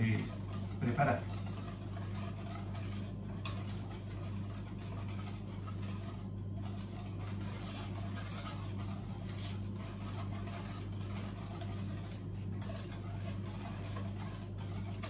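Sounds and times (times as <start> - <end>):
low electrical hum: 0.0 - 15.0
wire whisk scraping metal bowl: 0.0 - 15.0.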